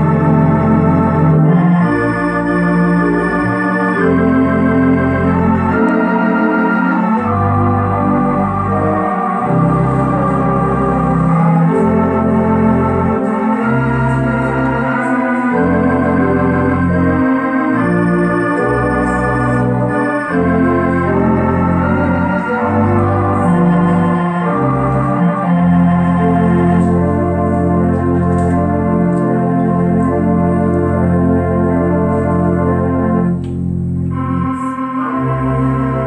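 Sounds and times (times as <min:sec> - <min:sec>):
pipe organ playing full chords: 0:00.0 - 0:36.0.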